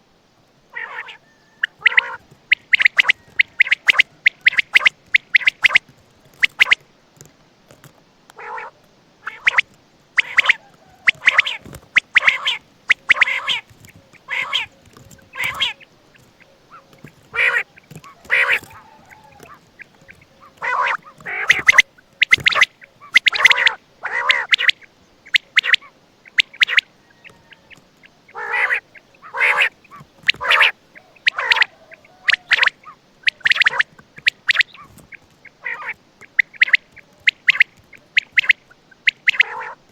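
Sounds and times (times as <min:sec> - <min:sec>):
quail calling: 0:00.7 - 0:06.8, 0:08.3 - 0:39.9.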